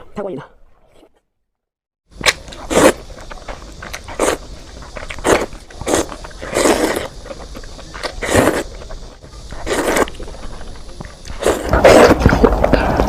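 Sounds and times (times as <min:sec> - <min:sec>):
loud eating noises: 0:02.1 - 0:13.0.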